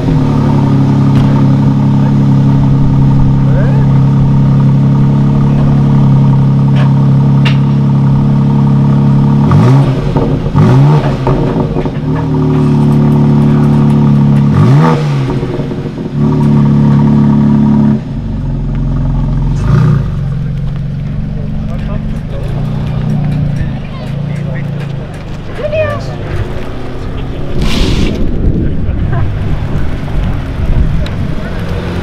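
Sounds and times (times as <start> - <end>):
car engine idling: 0.0 - 32.0
car engine revving: 0.0 - 32.0.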